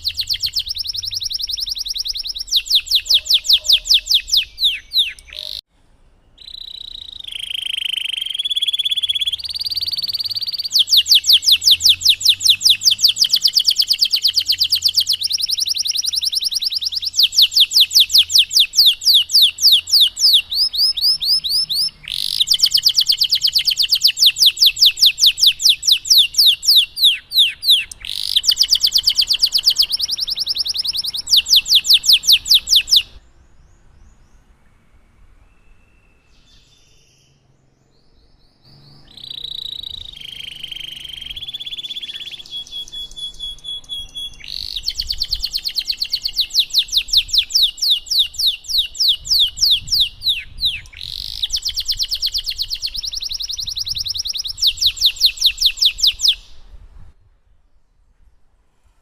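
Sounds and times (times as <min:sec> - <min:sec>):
canary singing trills: 0:00.0 - 0:34.5, 0:35.4 - 0:56.7.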